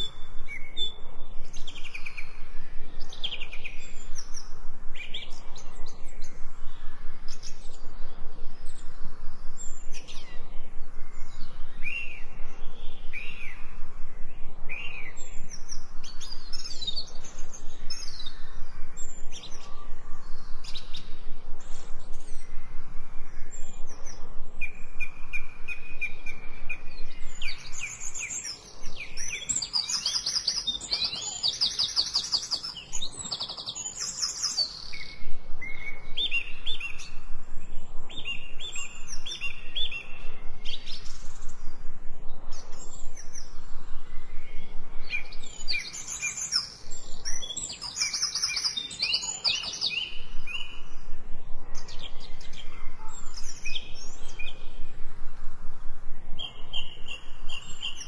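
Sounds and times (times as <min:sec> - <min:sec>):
songbirds singing trills: 0:00.0 - 0:58.0.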